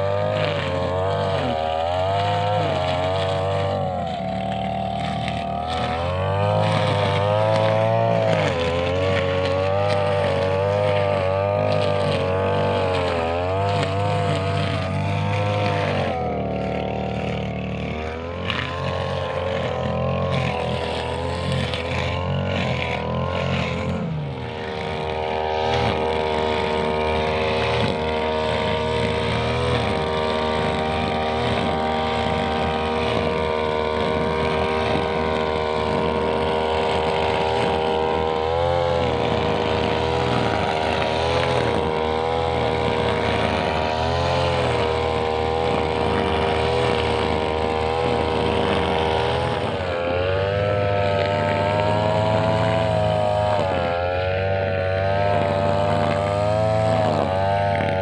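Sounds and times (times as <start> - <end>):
brushcutter engine cutting grass: 0.0 - 58.0.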